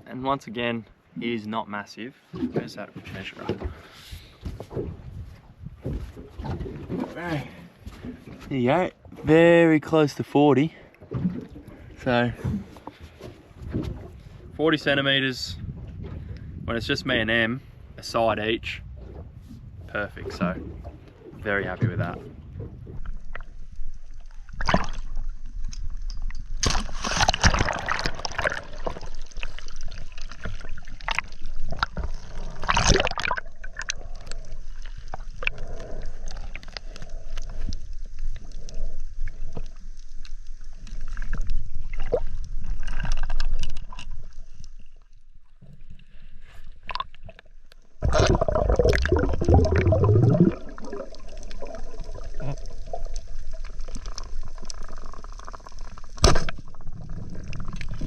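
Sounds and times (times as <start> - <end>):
water sloshing and gurgling: 2.1 - 58.0.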